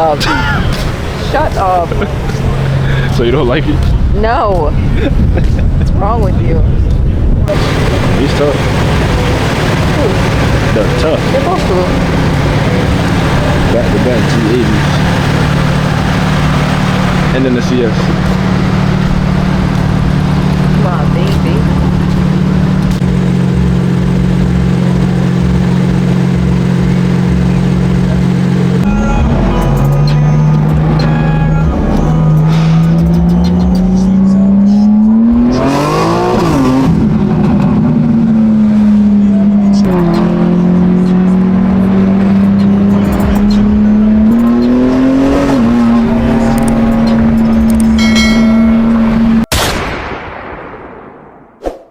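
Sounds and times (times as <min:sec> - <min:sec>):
car engine idling: 0:00.0 - 0:49.5.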